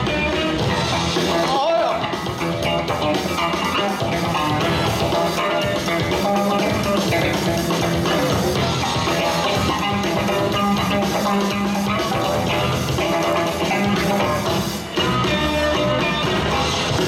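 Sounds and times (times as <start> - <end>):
music with drums and guitar: 0.0 - 17.0.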